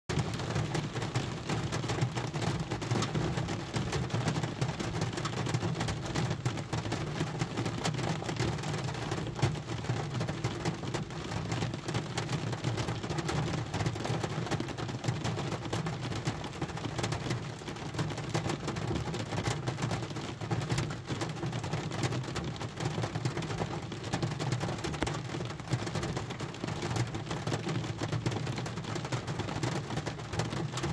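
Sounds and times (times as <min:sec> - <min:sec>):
rain on car roof: 0:00.1 - 0:30.9.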